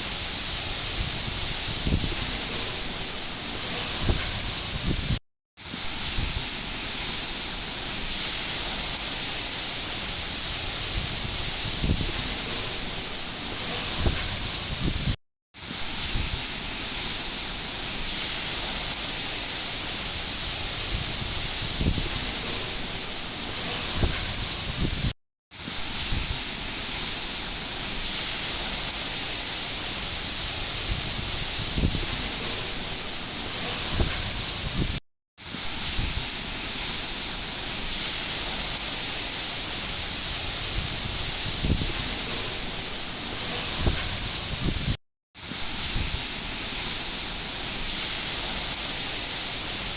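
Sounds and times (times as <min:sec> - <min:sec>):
heavy rain hiss: 0:00.0 - 0:49.9.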